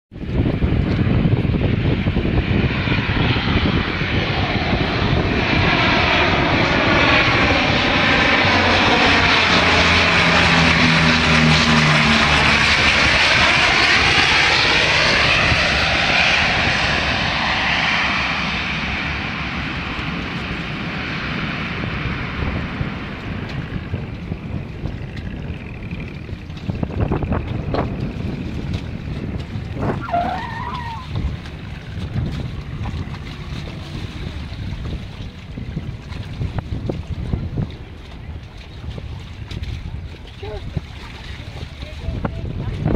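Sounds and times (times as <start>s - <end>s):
aircraft engine drone overhead: 0.1s - 42.9s.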